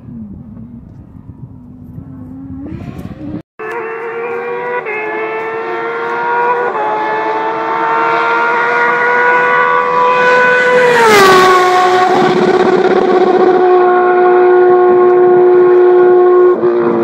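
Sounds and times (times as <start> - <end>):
rally car engine at high revs: 2.6 - 17.0.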